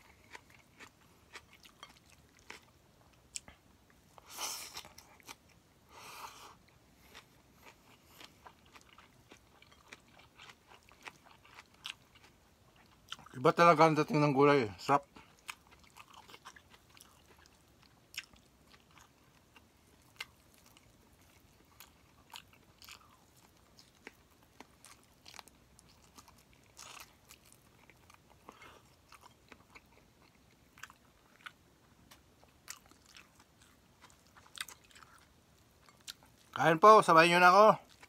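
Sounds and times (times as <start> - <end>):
person chewing food: 0.0 - 13.4, 15.0 - 36.6.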